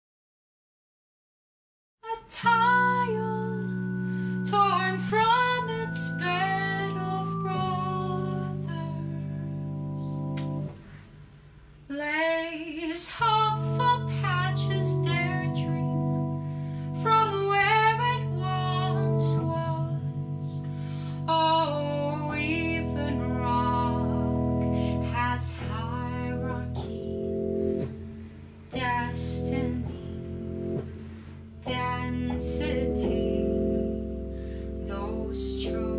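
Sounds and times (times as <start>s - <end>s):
woman singing slowly: 2.0s - 10.4s, 11.9s - 27.6s, 28.7s - 30.8s, 31.6s - 34.1s, 34.8s - 35.9s
organ chords: 2.5s - 11.0s, 13.2s - 35.9s.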